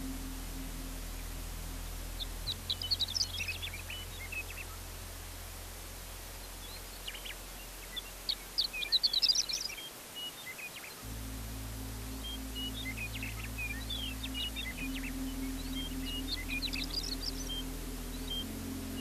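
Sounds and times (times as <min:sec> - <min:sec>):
songbird twittering: 0:00.0 - 0:04.8, 0:06.6 - 0:19.0.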